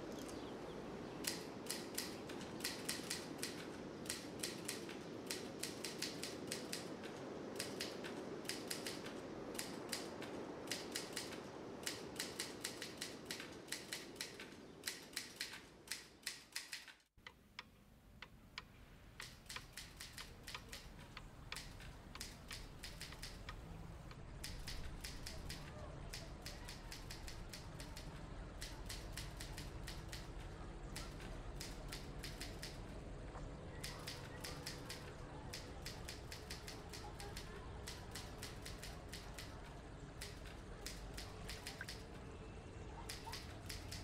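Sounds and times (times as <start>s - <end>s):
rapid sharp ticks: 1.2s - 33.0s, 33.7s - 42.2s, 43.0s - 44.0s.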